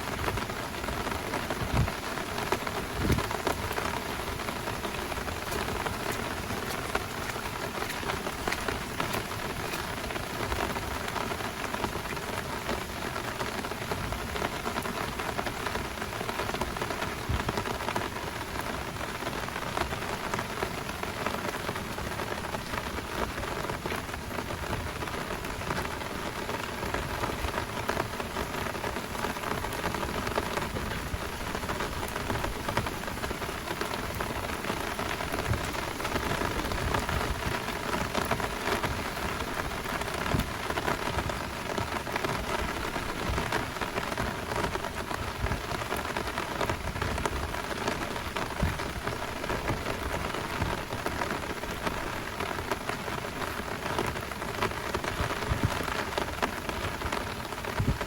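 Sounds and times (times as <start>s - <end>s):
heavy rain downpour: 0.0s - 58.0s.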